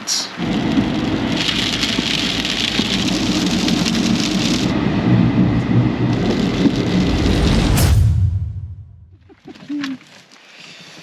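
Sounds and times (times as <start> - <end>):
rain hissing: 0.0 - 8.8
low rumble: 0.4 - 9.6.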